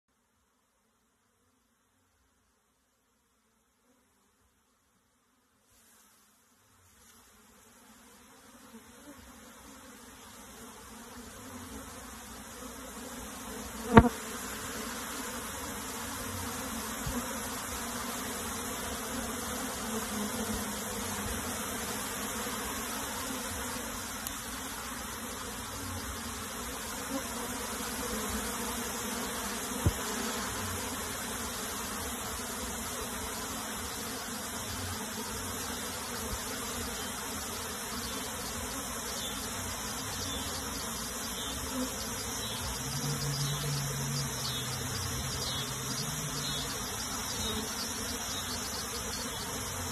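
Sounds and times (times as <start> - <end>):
honey bees buzzing: 6.9 - 49.9.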